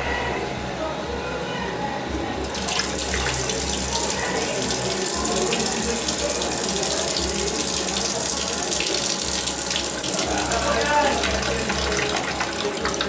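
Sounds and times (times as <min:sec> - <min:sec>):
urine splashing into toilet: 0:02.4 - 0:13.0.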